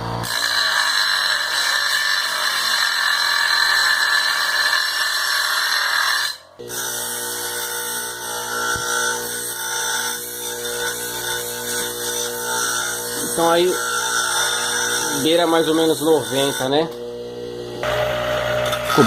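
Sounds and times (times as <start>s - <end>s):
electric motor tool whining: 0.0s - 19.0s.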